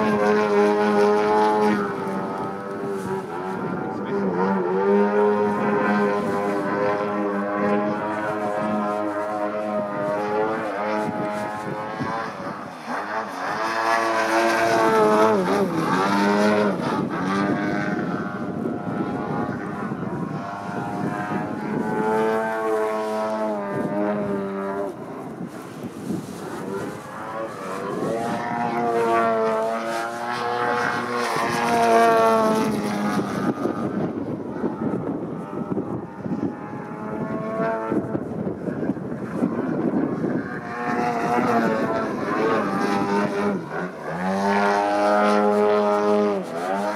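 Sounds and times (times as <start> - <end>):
model plane engine and propeller: 0.0 - 46.9.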